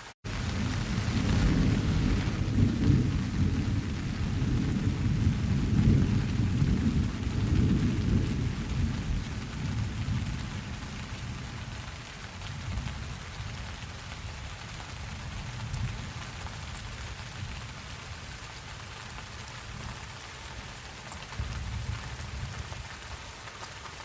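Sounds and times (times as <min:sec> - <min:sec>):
steady rain: 0:00.0 - 0:24.0
thunder rumbling: 0:00.3 - 0:18.3, 0:20.7 - 0:22.9.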